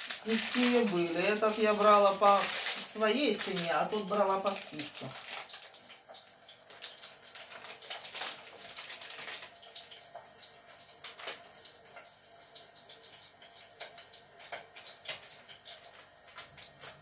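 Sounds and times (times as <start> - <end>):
plastic wrapper crinkling: 0.0 - 12.1, 13.8 - 17.0.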